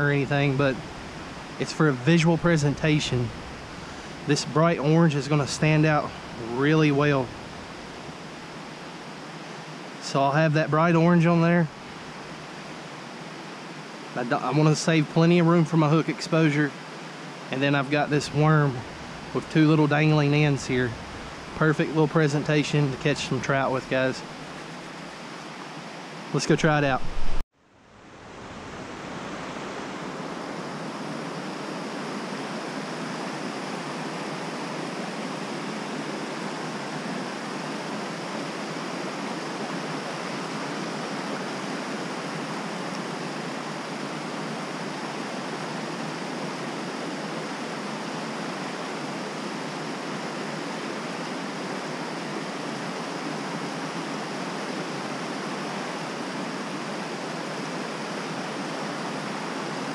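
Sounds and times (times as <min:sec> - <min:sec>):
creek water rushing: 0:00.0 - 0:27.4, 0:28.0 - 0:59.9.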